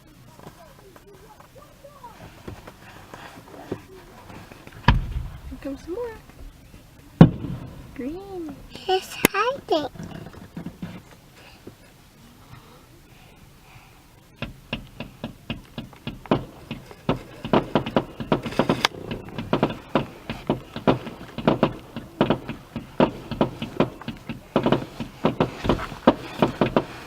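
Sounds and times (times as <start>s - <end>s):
fireworks bangs and crackles: 0.5s - 11.5s, 14.4s - 27.0s.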